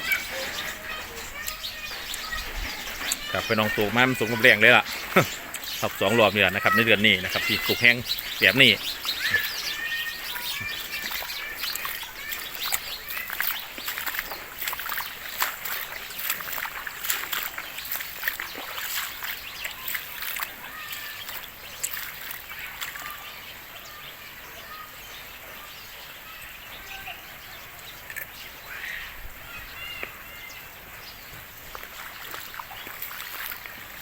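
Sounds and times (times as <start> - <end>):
heavy rain on hard surfaces: 0.0 - 21.8, 22.4 - 34.0
birds chirping: 0.0 - 34.0.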